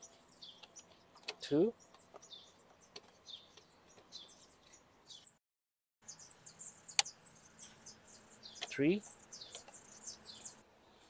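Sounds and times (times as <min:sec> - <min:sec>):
faint bird chirping: 0:00.0 - 0:05.4, 0:06.0 - 0:11.0.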